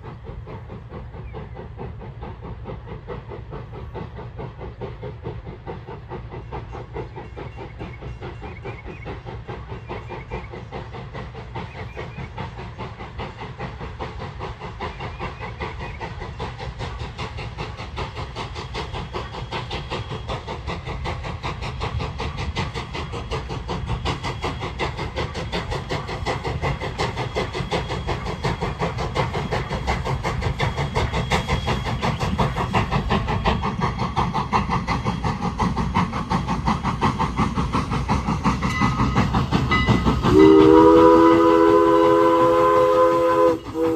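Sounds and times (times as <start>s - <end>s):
rapid pulsing and hiss of train: 0.0s - 43.9s
train approaching: 0.0s - 43.9s.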